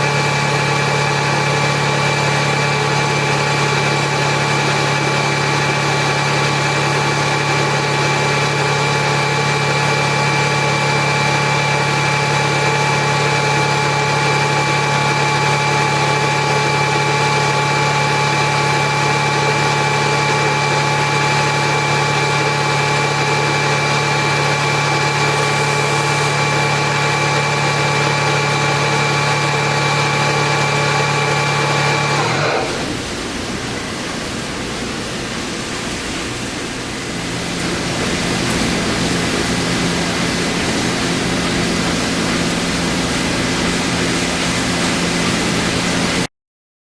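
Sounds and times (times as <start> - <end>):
air compressor hum and whine: 0.0 - 46.3.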